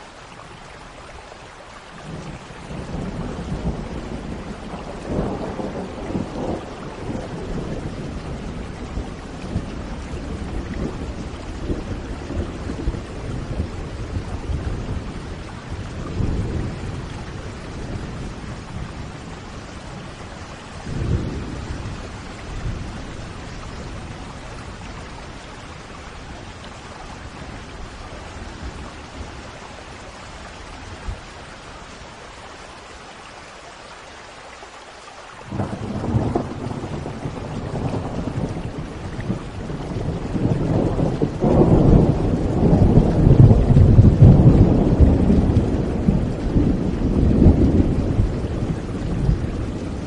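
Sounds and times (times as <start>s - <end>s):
steady rain falling: 0.0s - 50.0s
thunder rumbling: 2.1s - 30.0s, 35.5s - 50.0s.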